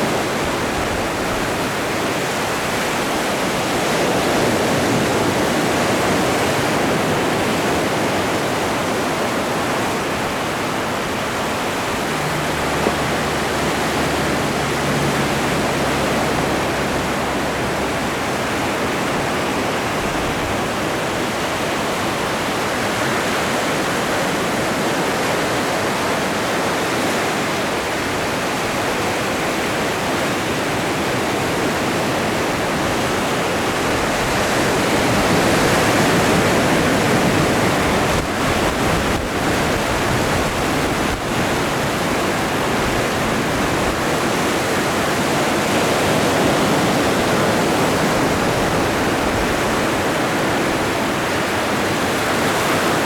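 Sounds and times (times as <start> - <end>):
ocean surf washing ashore: 0.0 - 53.0.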